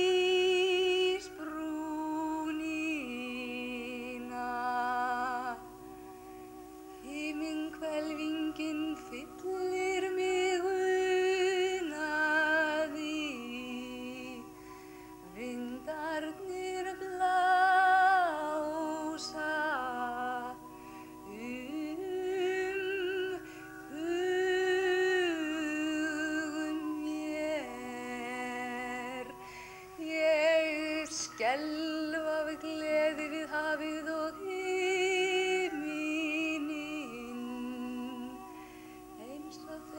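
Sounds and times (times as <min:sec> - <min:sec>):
voices singing wordless notes: 0:07.0 - 0:39.9.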